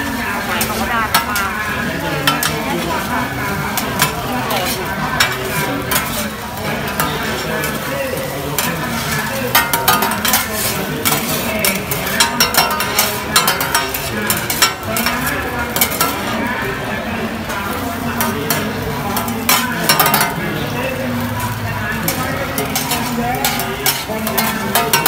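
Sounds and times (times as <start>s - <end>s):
egg mixture sizzling: 0.0s - 25.0s
metal spatulas scraping griddle: 0.1s - 16.7s, 17.4s - 25.0s.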